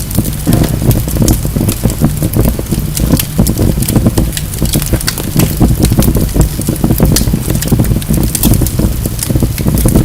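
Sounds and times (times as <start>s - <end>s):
fire crackling and popping: 0.0s - 10.0s
low rumble of flames: 0.0s - 10.0s.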